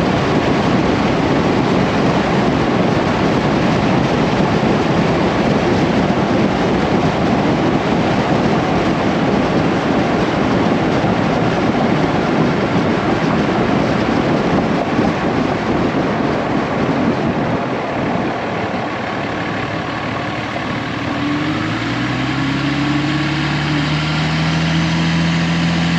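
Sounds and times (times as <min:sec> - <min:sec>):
low engine hum: 0:00.0 - 0:25.9
passing train rumbling: 0:00.0 - 0:25.9.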